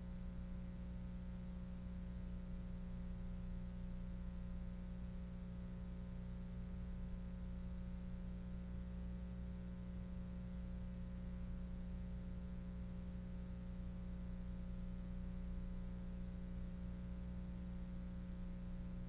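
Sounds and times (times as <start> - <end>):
faint high whine: 0.0 - 19.0
low electrical hum: 0.0 - 19.0.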